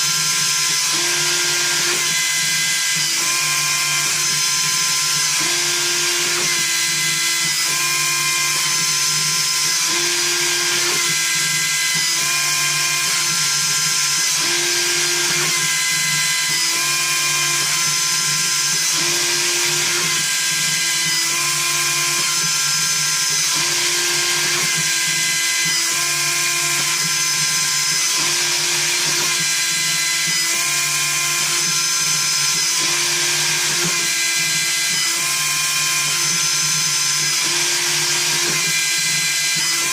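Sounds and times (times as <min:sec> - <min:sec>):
milling machine spindle running: 0:00.0 - 0:39.9.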